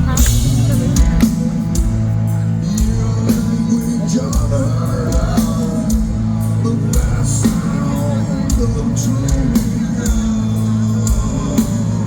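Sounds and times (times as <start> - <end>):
bass holding low notes: 0.0 - 12.0
distorted guitars: 0.0 - 12.0
drums: 0.0 - 12.0.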